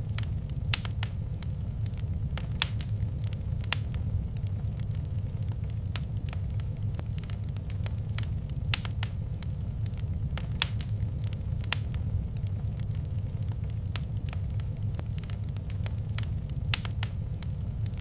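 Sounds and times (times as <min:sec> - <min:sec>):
fire low rumble: 0:00.0 - 0:18.0
wood fire crackling: 0:00.0 - 0:18.0.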